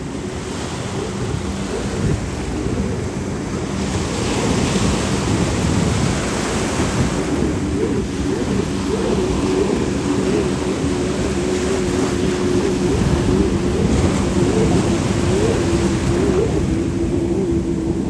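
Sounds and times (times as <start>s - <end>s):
ocean surf: 0.0s - 18.0s
powerboat engines droning: 0.0s - 18.0s
wind buffeting microphone: 0.0s - 18.0s.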